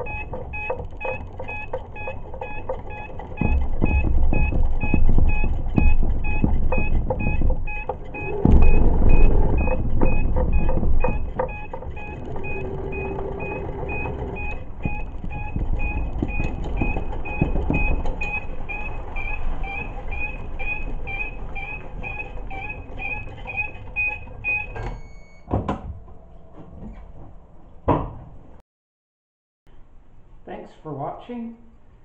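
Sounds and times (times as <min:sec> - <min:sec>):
knocks: 0:00.0 - 0:27.0, 0:27.8 - 0:28.3.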